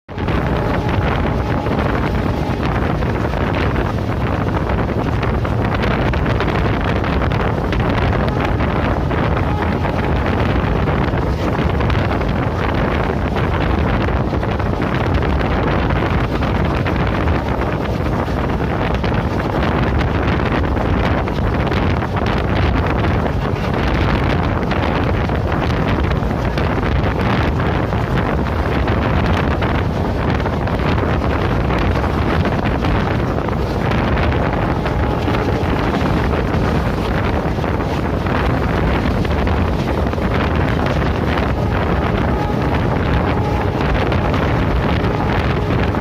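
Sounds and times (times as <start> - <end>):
passenger train rumbling: 0.0 - 46.0
wind on microphone: 0.0 - 46.0.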